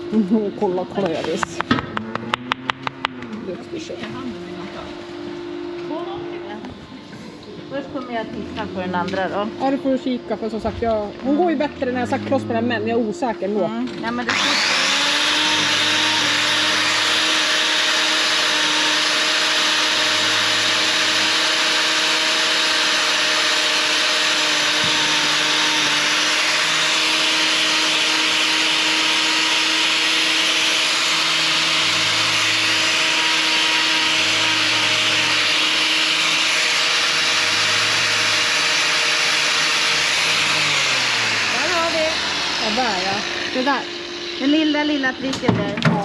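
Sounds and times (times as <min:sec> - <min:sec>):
grinder motor whine: 0:00.0 - 0:46.0.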